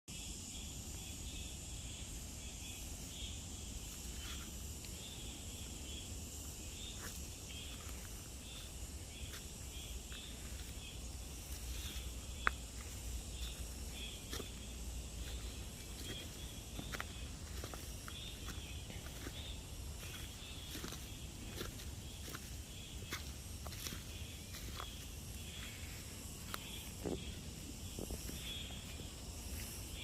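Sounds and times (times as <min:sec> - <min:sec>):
insects chirping: 0:00.1 - 0:30.0
steady high hiss: 0:00.1 - 0:30.0.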